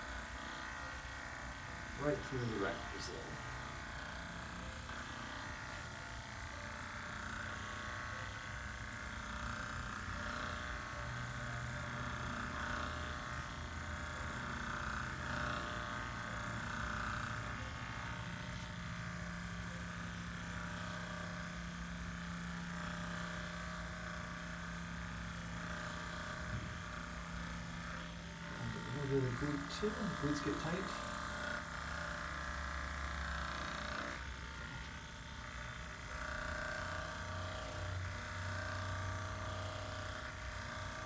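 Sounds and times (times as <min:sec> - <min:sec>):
massage gun motor hum: 0:00.0 - 0:41.0.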